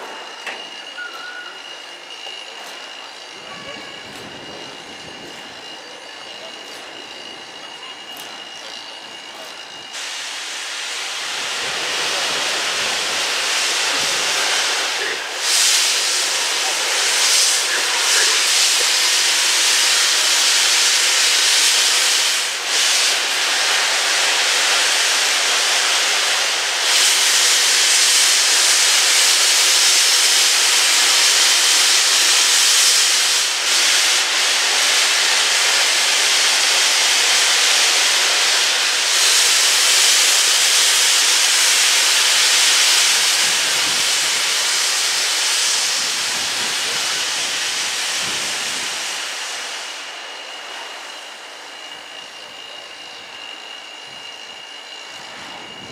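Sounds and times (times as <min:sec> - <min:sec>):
steam locomotive blowing off steam: 0:00.0 - 0:55.9.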